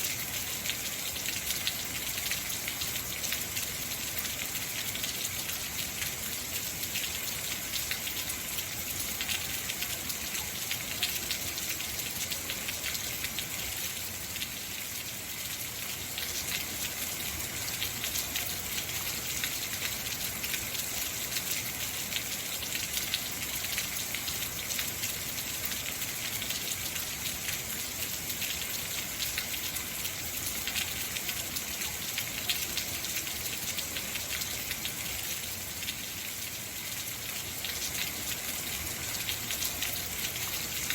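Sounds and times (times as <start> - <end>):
heavy rain on hard surfaces: 0.0 - 40.9.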